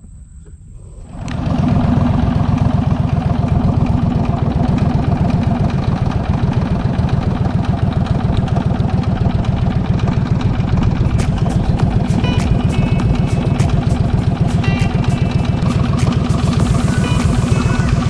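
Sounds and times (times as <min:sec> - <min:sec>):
small boat engine running: 0:00.8 - 0:18.0.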